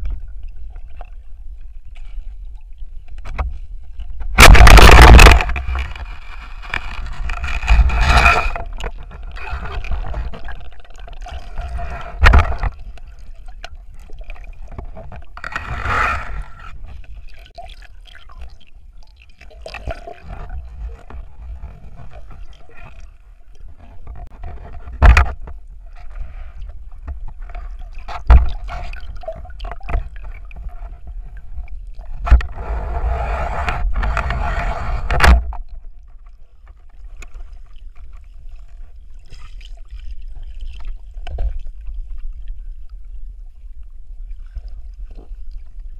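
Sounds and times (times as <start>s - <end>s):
underwater gurgling and scraping: 0.0s - 45.9s.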